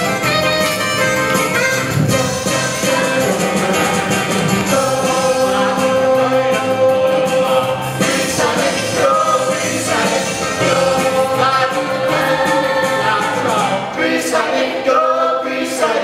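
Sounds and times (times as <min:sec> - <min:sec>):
instrumental accompaniment: 0:00.0 - 0:13.9
voices singing rock and roll: 0:01.5 - 0:16.0.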